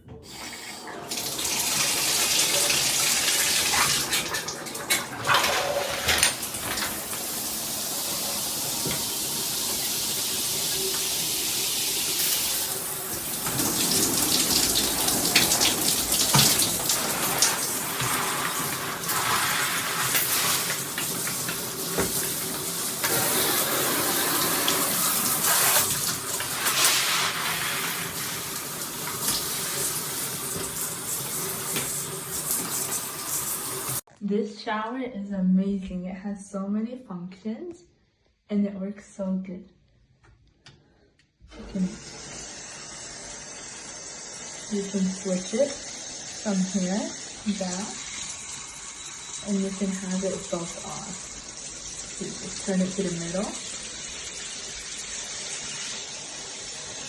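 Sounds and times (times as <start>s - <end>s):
water spraying from shower: 0.2s - 34.0s, 41.6s - 57.0s.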